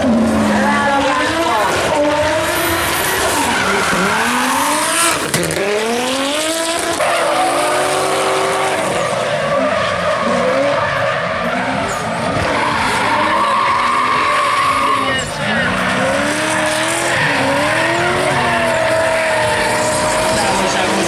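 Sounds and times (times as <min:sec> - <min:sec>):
car engines revving hard: 0:00.0 - 0:21.0.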